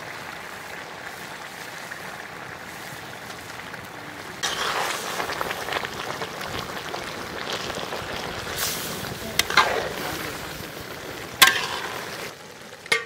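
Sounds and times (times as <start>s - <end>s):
pot simmering and bubbling: 0.0s - 13.0s.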